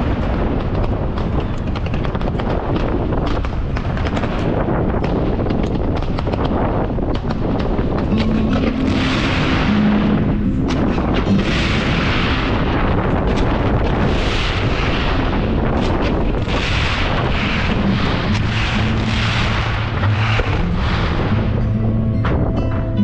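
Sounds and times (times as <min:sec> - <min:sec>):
aerial fireworks bursting: 0:00.0 - 0:21.8.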